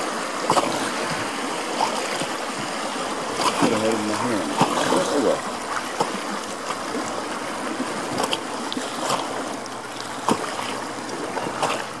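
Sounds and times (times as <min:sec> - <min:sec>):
shallow water rushing: 0:00.0 - 0:12.0
water splashes: 0:00.0 - 0:12.0.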